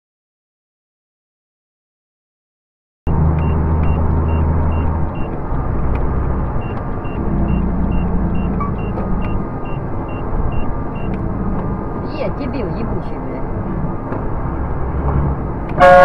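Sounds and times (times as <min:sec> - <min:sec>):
truck engine droning: 0:03.1 - 0:16.0.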